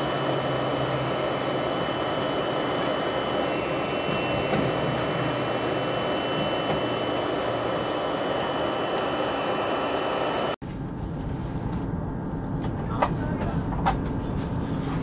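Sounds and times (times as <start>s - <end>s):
thin steady whine: 0.0s - 15.0s.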